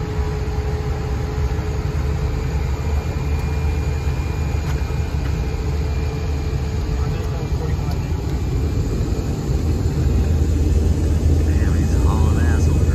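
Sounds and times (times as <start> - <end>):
turboprop engine drone: 0.0 - 12.9.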